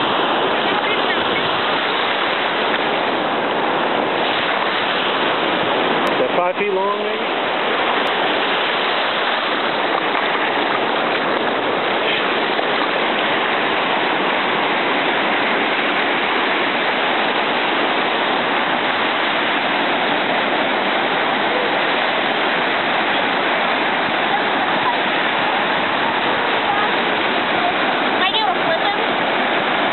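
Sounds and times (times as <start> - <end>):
ocean surf breaking: 0.0 - 29.9.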